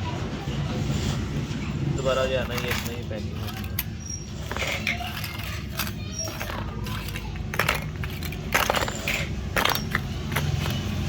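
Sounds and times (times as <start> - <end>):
small hard parts clattering: 2.0 - 11.0.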